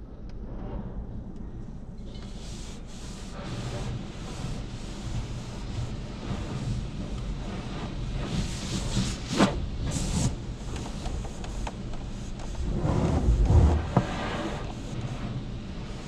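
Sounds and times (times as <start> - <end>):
high-pressure water spraying on car: 2.3 - 16.0.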